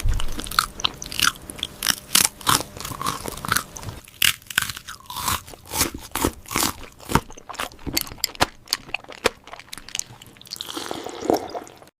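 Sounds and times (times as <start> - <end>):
crunchy food chewing: 0.0 - 11.8.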